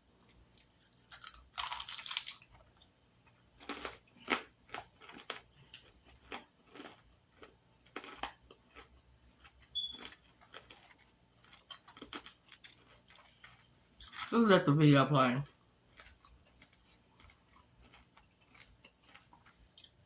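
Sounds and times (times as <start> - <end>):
person chewing food: 0.2 - 14.3, 15.4 - 20.0.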